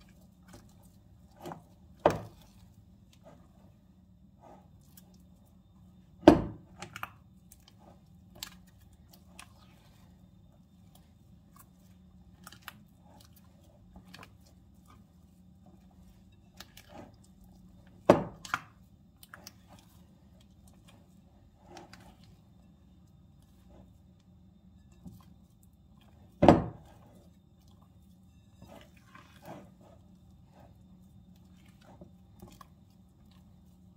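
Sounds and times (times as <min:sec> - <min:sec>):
faint steady low hum: 0:00.0 - 0:33.9.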